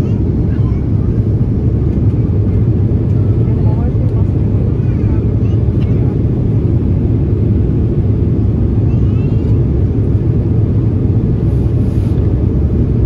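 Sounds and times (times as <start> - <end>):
jet airliner cabin rumble: 0.0 - 13.0.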